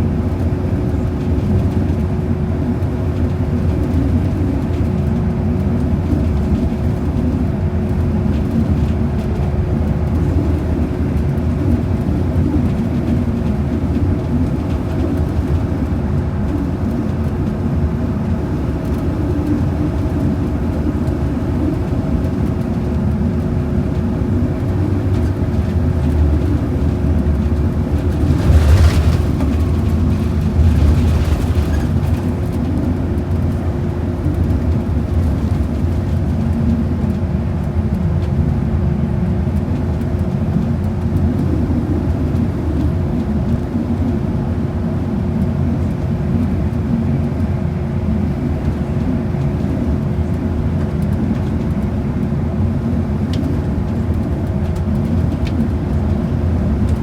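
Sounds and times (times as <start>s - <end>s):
bus engine and road rumble: 0.0s - 57.0s
constant hum: 0.0s - 57.0s.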